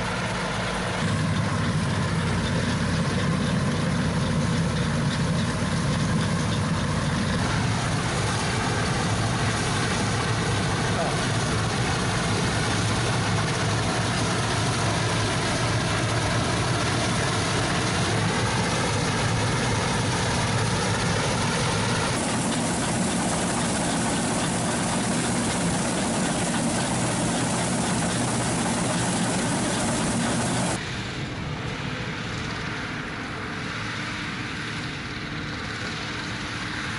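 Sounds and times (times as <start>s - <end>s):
combine harvester running: 0.0s - 36.9s.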